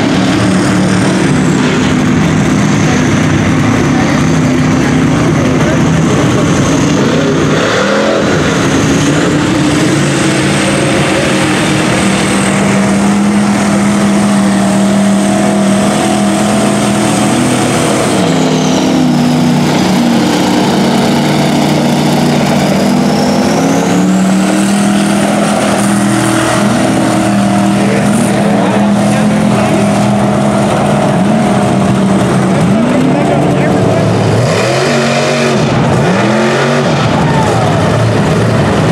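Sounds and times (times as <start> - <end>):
truck engine revving hard: 0.0 - 38.9.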